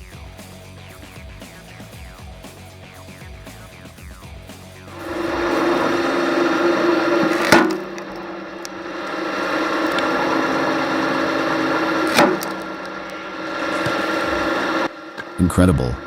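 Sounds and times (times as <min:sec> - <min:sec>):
log splitter motor hum: 0:00.0 - 0:16.0.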